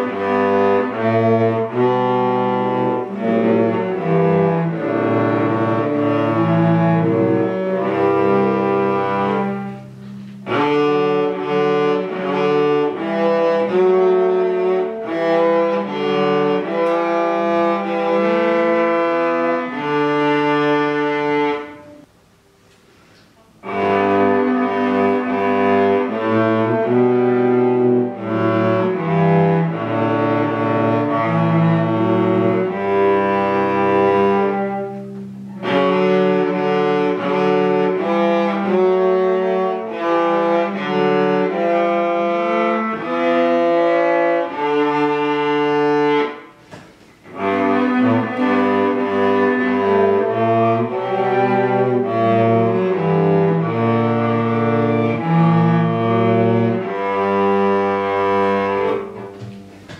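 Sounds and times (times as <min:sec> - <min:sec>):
cellos playing a bowed duet: 0:00.0 - 0:59.9.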